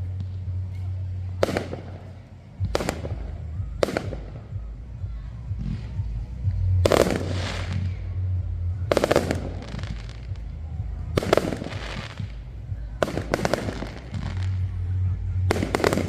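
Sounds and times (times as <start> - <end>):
fireworks cracking: 0.0 - 16.0
steady low hum: 0.0 - 16.0.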